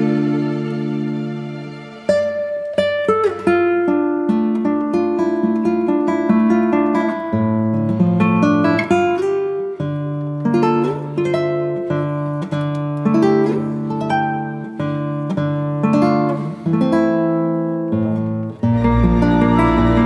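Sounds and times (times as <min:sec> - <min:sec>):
plucked acoustic guitar music: 0:00.0 - 0:20.0.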